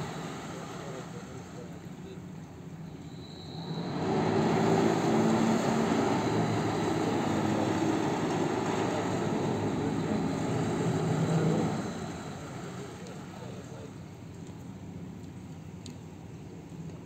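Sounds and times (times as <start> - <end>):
ship engines droning: 0.0 - 16.8.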